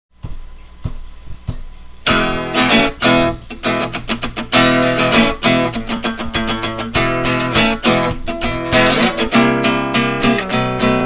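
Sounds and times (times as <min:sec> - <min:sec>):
strummed guitar chords: 0:02.1 - 0:11.0.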